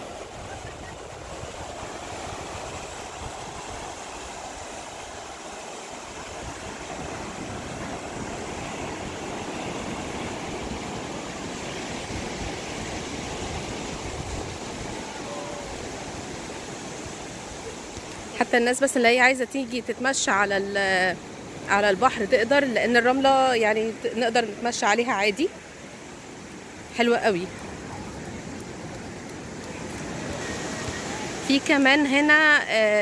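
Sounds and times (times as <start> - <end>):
waves washing on beach: 0.0 - 33.0.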